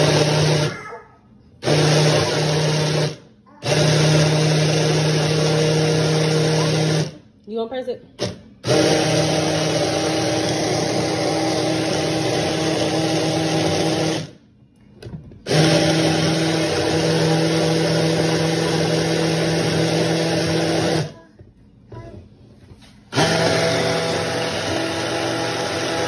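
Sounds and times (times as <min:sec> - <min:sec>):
blender motor running: 0:00.0 - 0:00.8, 0:01.6 - 0:07.2, 0:08.2 - 0:14.4, 0:15.5 - 0:21.2, 0:23.1 - 0:26.0.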